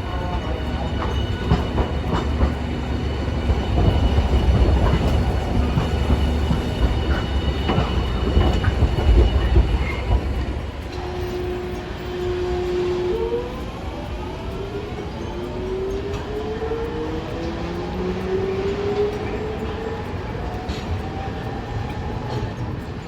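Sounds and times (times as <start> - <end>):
streetcar rumbling: 0.0 - 23.0
wheels clacking over rail joints: 0.0 - 23.0.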